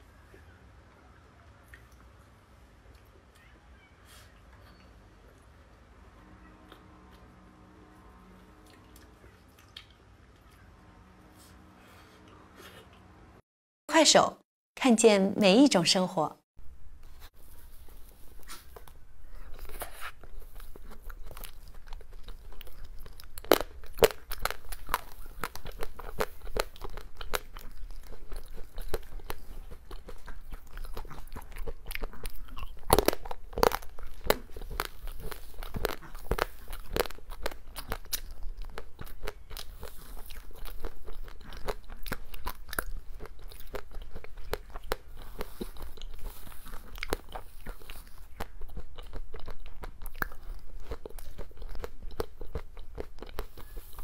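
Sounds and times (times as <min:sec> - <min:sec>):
crunching and chewing: 0:04.4 - 0:11.0, 0:17.0 - 0:54.0.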